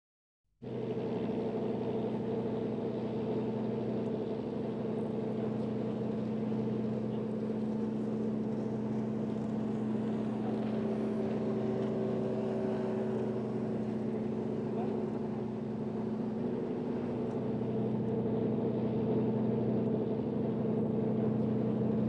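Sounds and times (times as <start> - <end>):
boat engine droning: 0.6 - 22.0.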